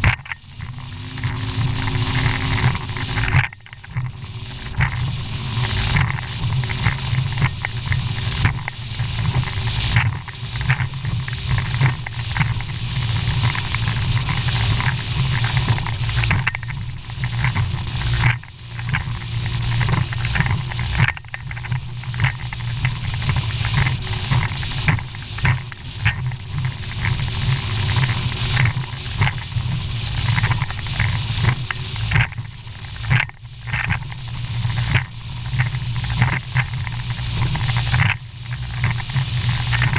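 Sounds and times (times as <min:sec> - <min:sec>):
outboard engine drone: 0:00.0 - 0:39.9
rushing water: 0:00.0 - 0:39.9
wind noise: 0:00.0 - 0:39.9.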